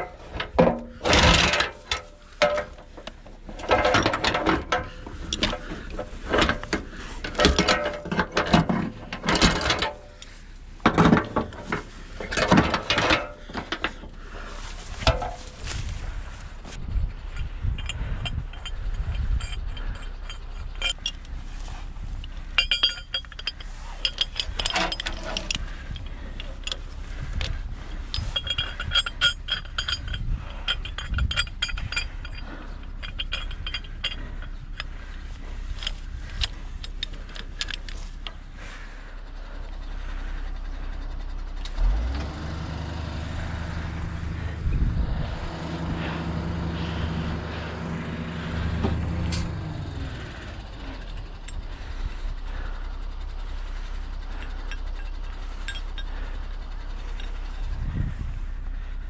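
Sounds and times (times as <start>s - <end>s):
metal tow chain clinking: 0.0s - 59.0s
truck engine running: 0.0s - 59.0s.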